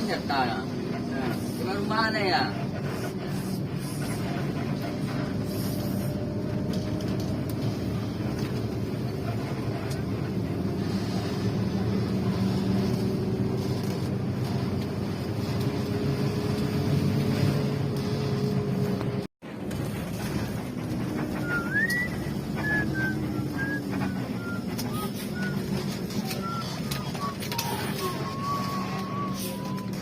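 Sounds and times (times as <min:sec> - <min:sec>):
bus engine hum: 0:00.0 - 0:30.0.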